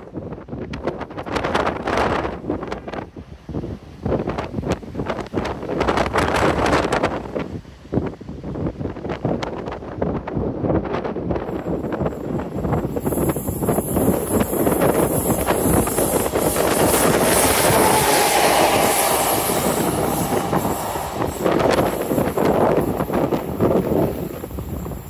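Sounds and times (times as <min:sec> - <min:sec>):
locomotive wheels rushing on rail: 0:00.1 - 0:25.0.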